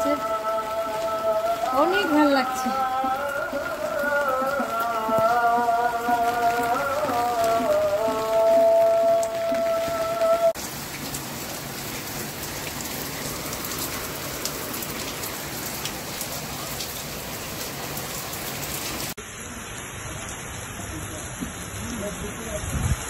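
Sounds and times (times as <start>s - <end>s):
raindrops ticking on surfaces: 0.0s - 23.0s
steady rain hiss: 0.0s - 23.0s.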